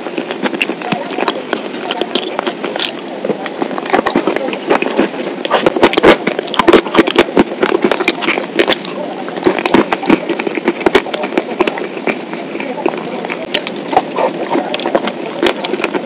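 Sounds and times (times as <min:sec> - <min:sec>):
sticky mouth clicks: 0:00.0 - 0:16.0
sucking: 0:00.0 - 0:16.0.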